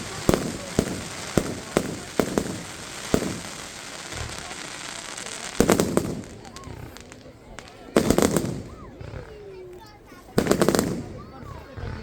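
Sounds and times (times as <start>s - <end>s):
crackling hiss: 0.0s - 12.0s
fireworks bangs: 0.0s - 12.0s.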